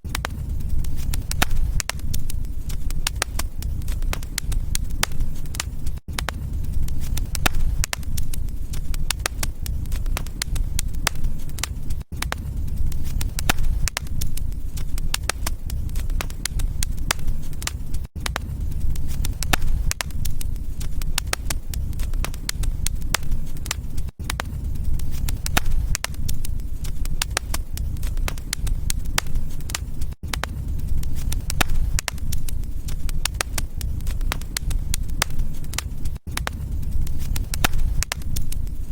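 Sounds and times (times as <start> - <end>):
low rumble: 0.0 - 38.9
wood fire crackling and popping: 0.0 - 38.9.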